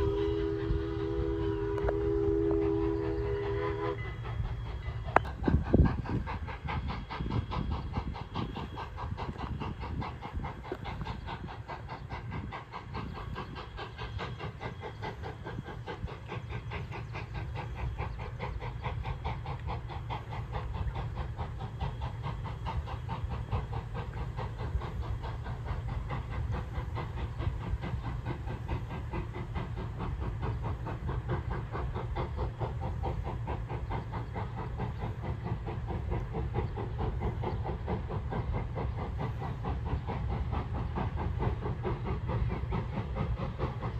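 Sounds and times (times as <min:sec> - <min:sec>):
steam hiss: 0:00.0 - 0:43.9
steam locomotive chuffing: 0:00.0 - 0:43.9.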